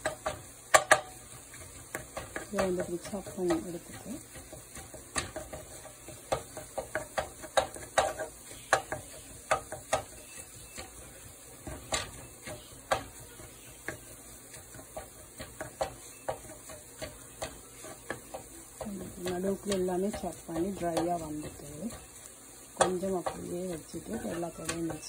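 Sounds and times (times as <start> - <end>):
faint frying sizzle: 0.0 - 25.0
spatula scraping frying pan: 0.0 - 25.0.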